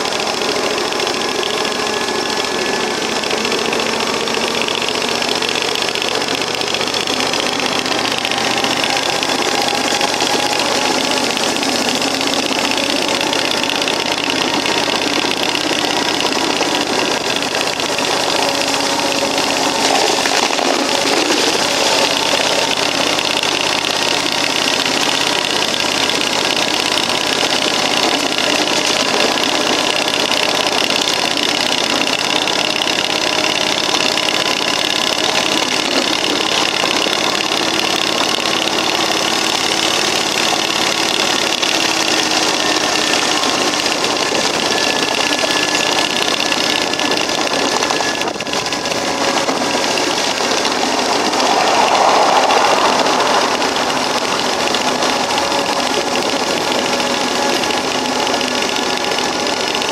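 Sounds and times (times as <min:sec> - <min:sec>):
petrol engine running: 0:00.0 - 0:59.9.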